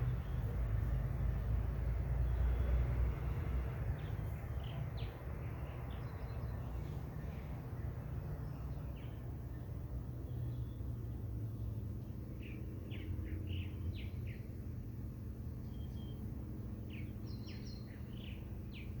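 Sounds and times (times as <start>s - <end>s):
small birds chirping: 0.0s - 1.2s, 2.1s - 19.0s.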